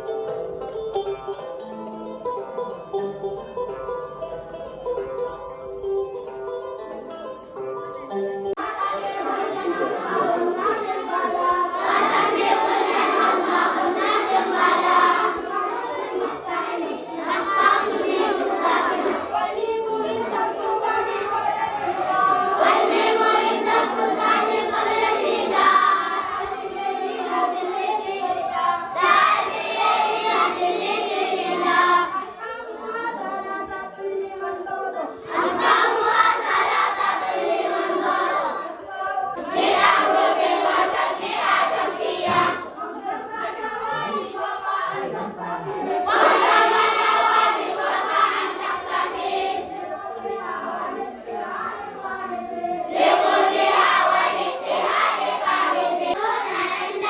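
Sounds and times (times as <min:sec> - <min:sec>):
children singing: 0:08.5 - 0:57.0.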